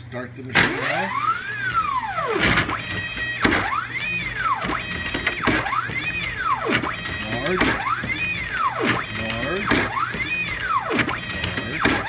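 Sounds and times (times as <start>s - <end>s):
motor whine: 0.6s - 12.0s.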